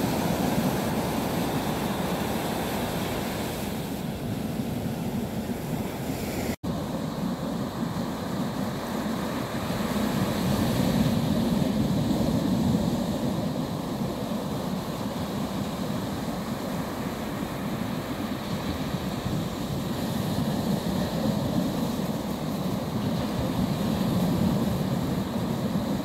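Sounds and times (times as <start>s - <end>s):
waves breaking on sandy beach: 0.0s - 26.0s.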